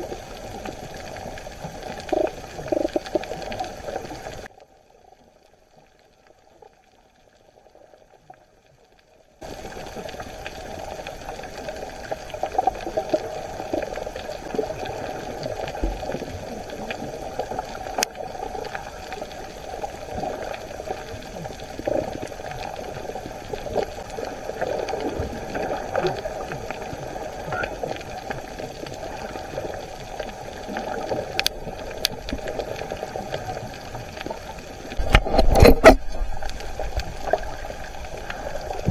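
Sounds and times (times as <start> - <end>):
underwater bubbling: 0.0 - 38.9.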